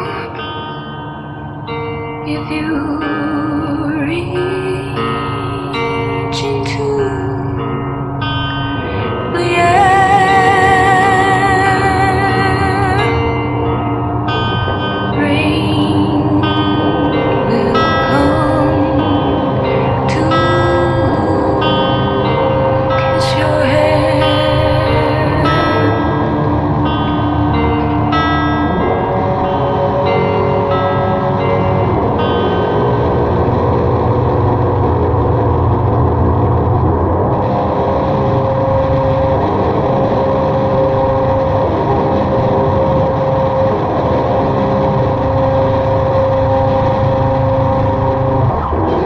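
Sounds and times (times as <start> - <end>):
drone music held tones: 0.0 - 49.0.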